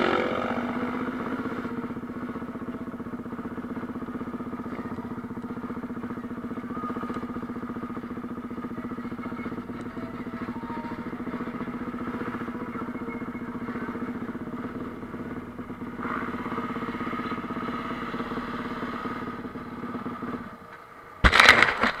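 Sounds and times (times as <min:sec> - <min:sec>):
motorcycle engine idling: 0:00.0 - 0:21.2.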